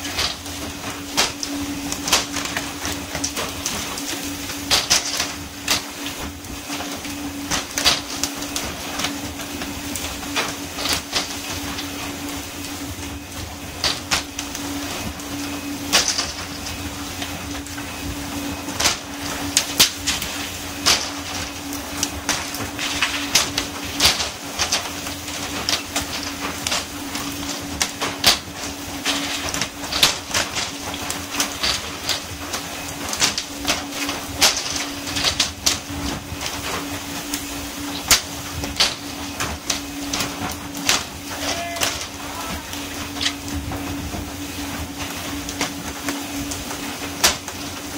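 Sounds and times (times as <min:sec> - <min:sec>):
boat engine hum: 0:00.0 - 0:47.9.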